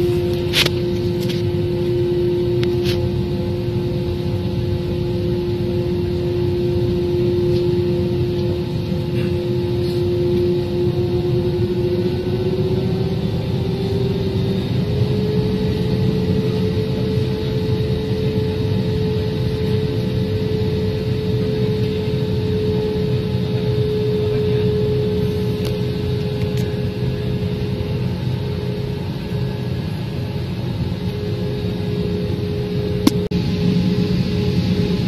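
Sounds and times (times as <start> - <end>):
airliner cabin engine hum: 0.0 - 35.0.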